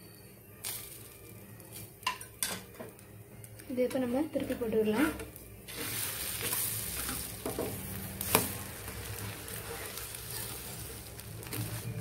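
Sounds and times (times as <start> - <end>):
chapati sizzling on a hot pan: 0.0 - 2.7, 3.8 - 12.0.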